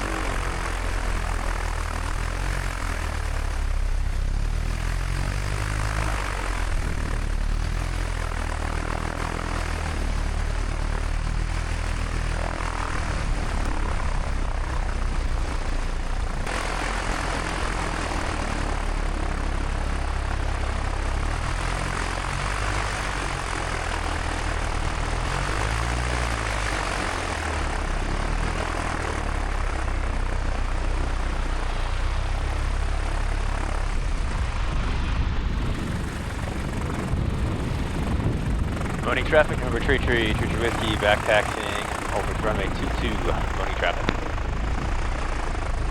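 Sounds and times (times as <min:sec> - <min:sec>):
airplane engine and propeller running: 0:00.0 - 0:45.9.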